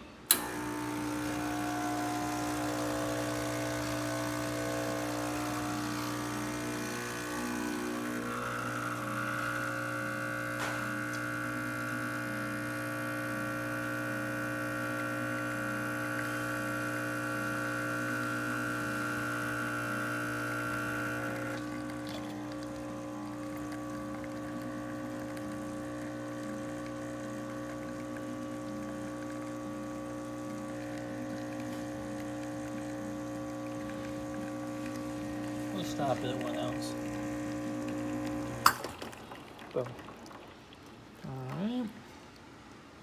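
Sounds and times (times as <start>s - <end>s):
espresso machine pump humming: 0.2s - 43.0s.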